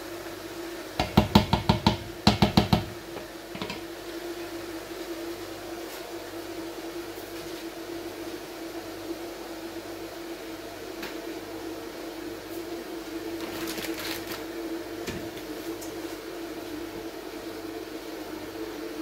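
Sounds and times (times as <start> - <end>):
electric kettle heating water: 0.0 - 19.0
kitchen appliances humming: 0.0 - 19.0.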